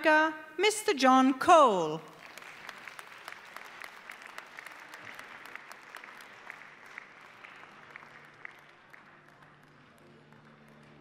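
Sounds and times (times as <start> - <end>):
audience applause: 2.1 - 11.0.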